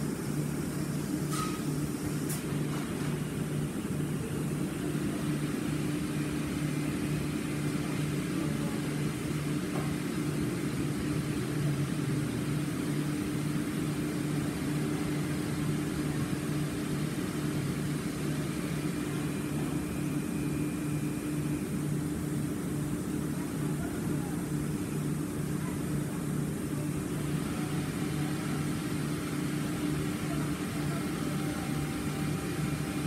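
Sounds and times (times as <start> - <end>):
industrial machine humming: 0.0 - 33.0.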